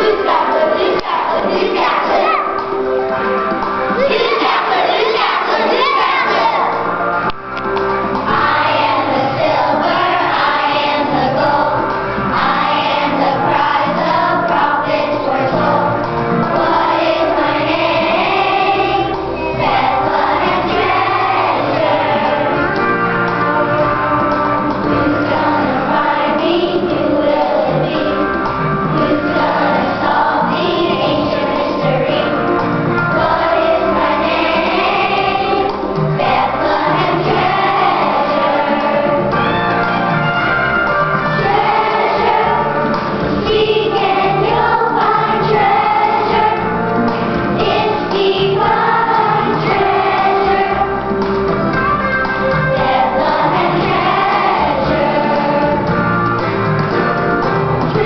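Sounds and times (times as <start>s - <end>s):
children's choir singing: 0.0s - 58.0s
musical accompaniment: 0.0s - 58.0s.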